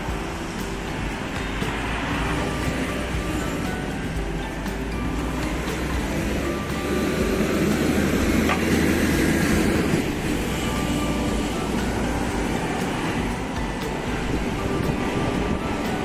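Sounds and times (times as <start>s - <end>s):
bus engine passing: 0.0s - 16.0s
road traffic: 0.0s - 16.0s.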